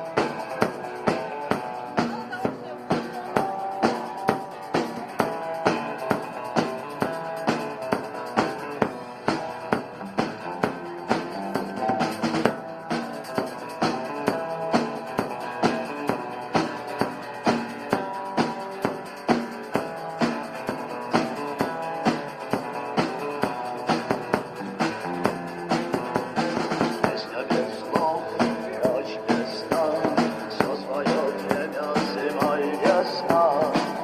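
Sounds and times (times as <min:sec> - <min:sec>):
drum kit beat: 0:00.0 - 0:34.0.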